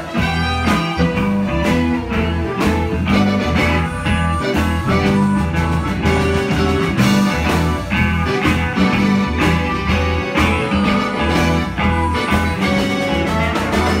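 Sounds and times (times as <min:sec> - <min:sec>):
live blues band: 0:00.0 - 0:14.0.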